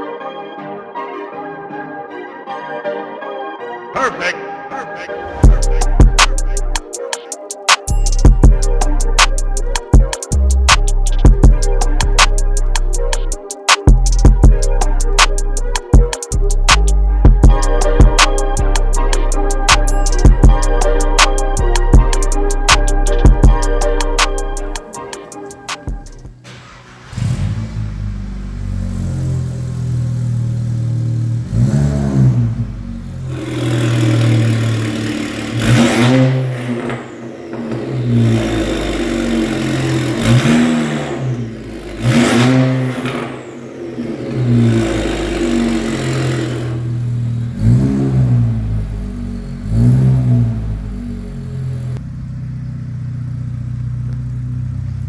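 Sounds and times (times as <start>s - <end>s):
car engine revving: 5.2s - 7.1s, 7.9s - 55.0s.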